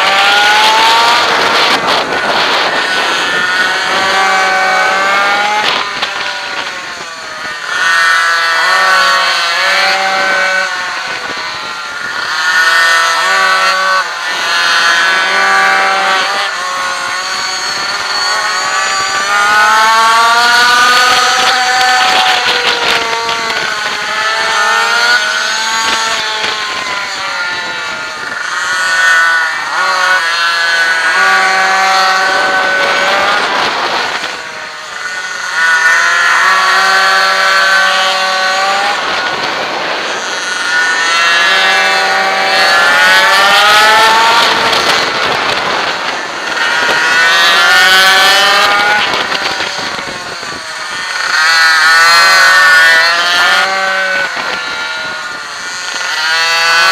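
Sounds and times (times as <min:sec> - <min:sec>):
small two-stroke engine revving: 0:00.0 - 0:56.9.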